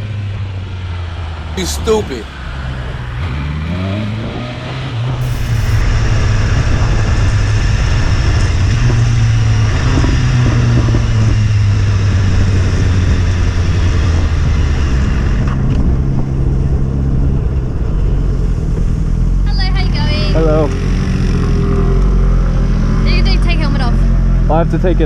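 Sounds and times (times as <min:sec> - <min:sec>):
motorcycle engine drone: 0:00.0 - 0:25.0
wind and road noise: 0:00.0 - 0:25.0.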